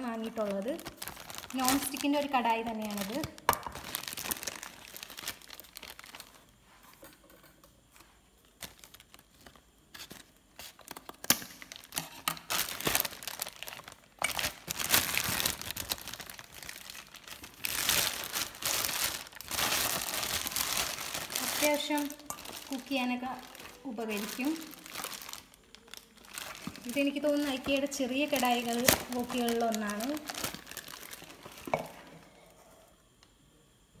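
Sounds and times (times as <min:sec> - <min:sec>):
plastic bag crinkling: 0:00.0 - 0:06.6, 0:08.0 - 0:32.2.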